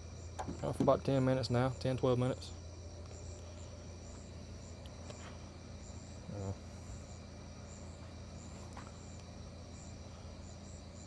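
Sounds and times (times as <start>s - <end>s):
crickets chirping: 0.0s - 11.0s
steady low hum: 0.0s - 11.0s.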